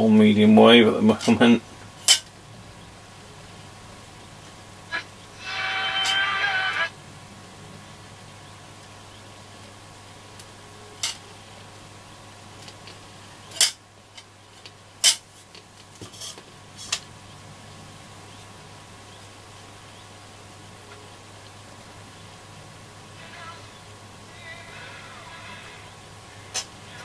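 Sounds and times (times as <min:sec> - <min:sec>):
radio static hiss: 0:00.0 - 0:27.0
steady low hum: 0:00.0 - 0:27.0.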